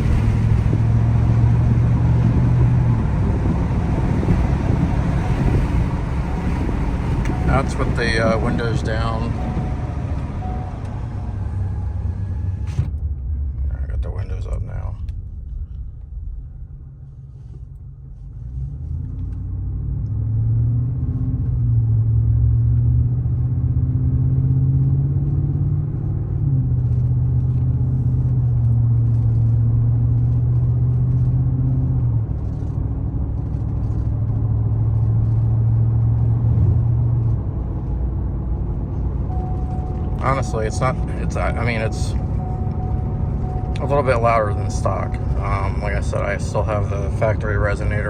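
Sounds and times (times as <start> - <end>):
truck engine accelerating: 0.0 - 48.0.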